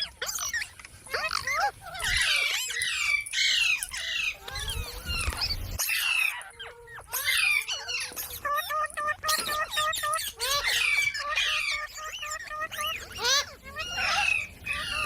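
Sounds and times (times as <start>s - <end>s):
parrot squawking and chattering: 0.0s - 15.0s.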